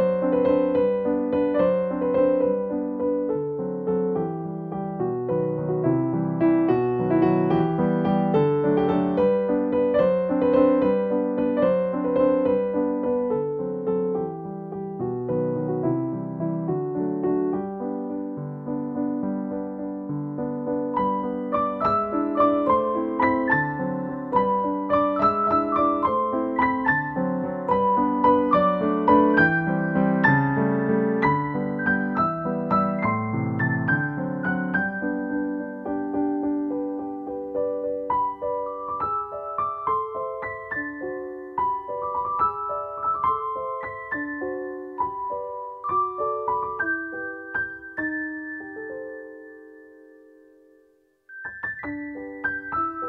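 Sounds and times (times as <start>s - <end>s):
piano keyboard piece: 0.0s - 53.0s.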